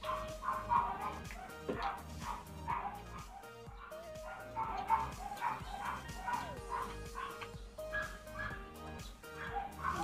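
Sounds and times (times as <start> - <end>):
dog yapping: 0.0 - 8.6, 9.4 - 10.0
background music: 0.0 - 10.0.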